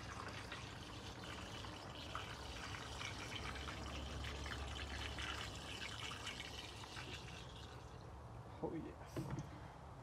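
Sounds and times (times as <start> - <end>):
liquid pouring through funnel: 0.0 - 8.2.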